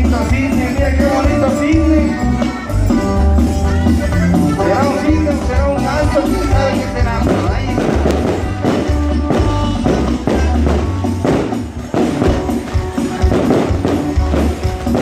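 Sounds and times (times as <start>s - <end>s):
deep bass line: 0.0s - 15.0s
live band music over pa: 0.0s - 15.0s.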